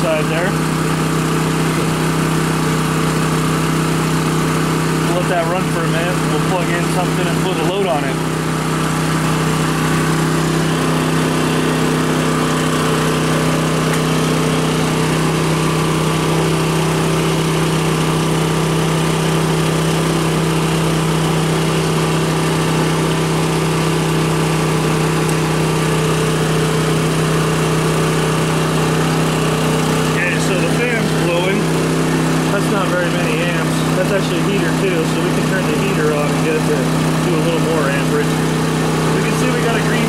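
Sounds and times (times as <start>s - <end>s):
generator engine running: 0.0s - 40.0s.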